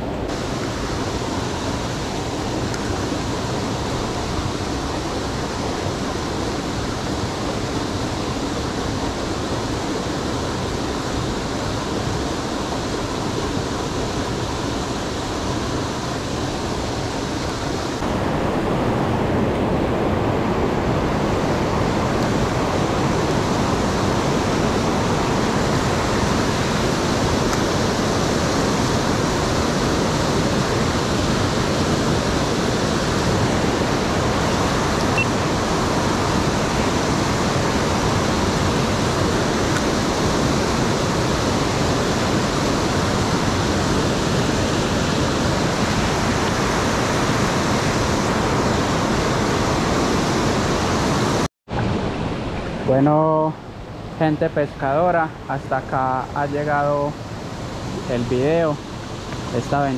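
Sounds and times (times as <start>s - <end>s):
creek water rushing: 0.0s - 59.9s.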